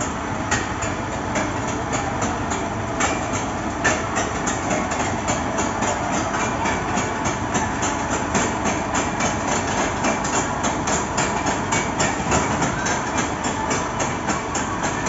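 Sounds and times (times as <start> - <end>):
roller coaster running noise: 0.0 - 15.0
roller coaster wheels clattering: 0.0 - 15.0.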